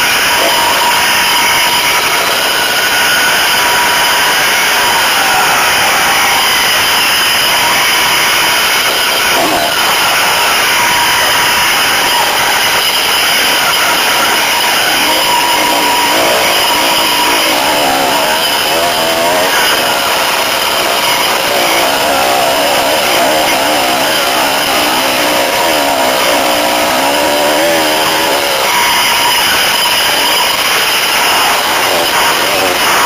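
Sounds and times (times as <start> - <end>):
dirt bike engine revving: 0.0 - 33.0
steady rush of noise: 0.0 - 33.0.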